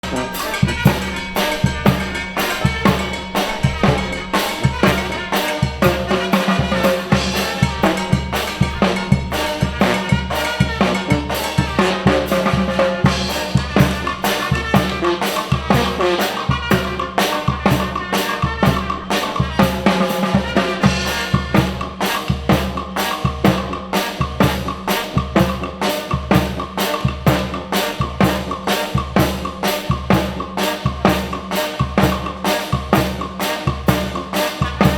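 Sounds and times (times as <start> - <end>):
bass drum and snare beat: 0.0 - 34.9
brass band playing: 0.0 - 34.9.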